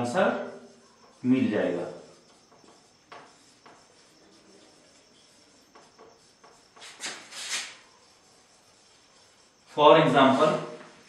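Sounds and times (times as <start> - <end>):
marker squeaking on whiteboard: 0.0 - 10.8.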